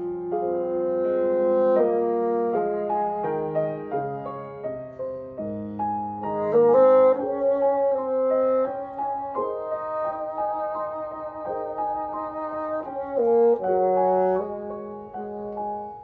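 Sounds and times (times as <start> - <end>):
sustained wind-instrument notes: 0.0 - 4.0, 6.2 - 16.0
piano figures: 0.0 - 16.0.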